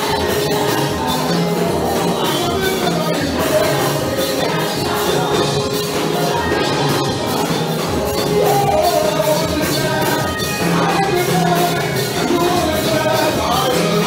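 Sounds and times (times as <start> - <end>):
choir singing: 0.0 - 14.0
drum beat: 0.0 - 14.0
man singing into a microphone: 0.0 - 14.0.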